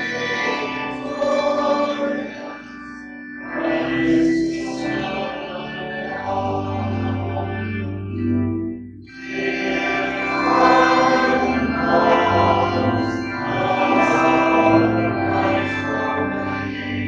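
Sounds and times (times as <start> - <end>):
choir singing a hymn: 0.0 - 2.6, 3.4 - 8.2, 9.2 - 17.0.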